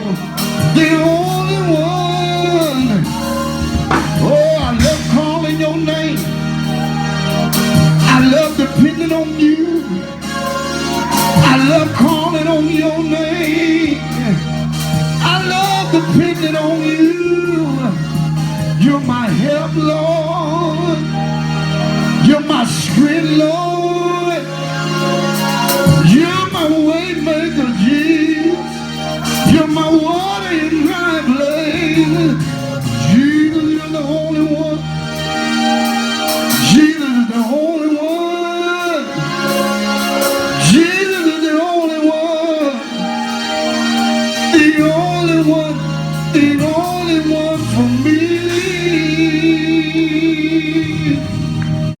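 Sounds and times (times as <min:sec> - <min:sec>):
person singing with vibrato: 0:00.0 - 0:51.4
held instrumental chords: 0:00.0 - 0:52.0.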